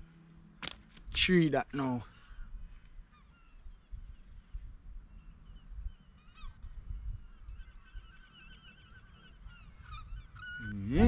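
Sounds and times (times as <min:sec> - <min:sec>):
birds chirping: 0:00.8 - 0:11.0.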